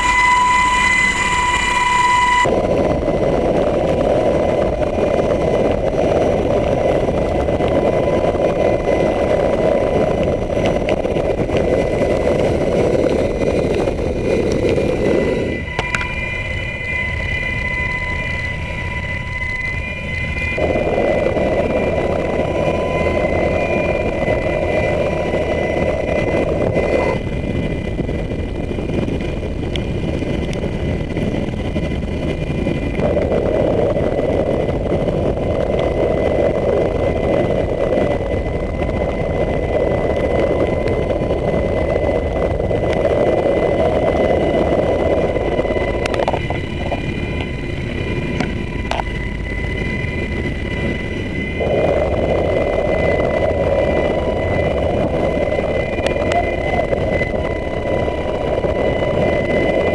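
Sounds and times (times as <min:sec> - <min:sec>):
helicopter engine and rotor: 0:00.0 - 0:59.9
high whine: 0:00.0 - 0:59.9
rushing sound: 0:00.0 - 0:59.9.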